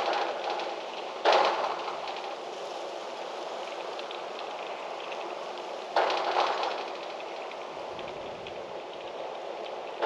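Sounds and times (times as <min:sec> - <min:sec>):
faint light ticks: 0:00.0 - 0:10.0
wind rustling through trees: 0:00.0 - 0:10.0.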